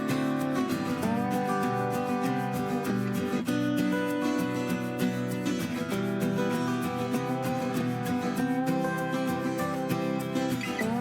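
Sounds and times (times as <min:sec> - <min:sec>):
plucked acoustic guitar melody: 0:00.0 - 0:11.0.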